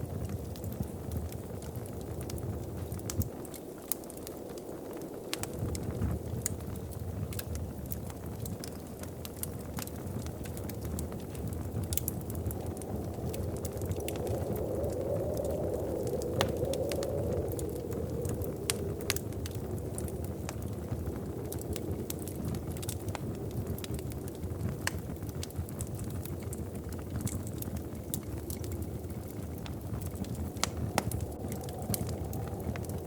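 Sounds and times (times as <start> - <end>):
wood fire crackling: 0.0 - 33.0
steady low rumble: 0.2 - 33.0.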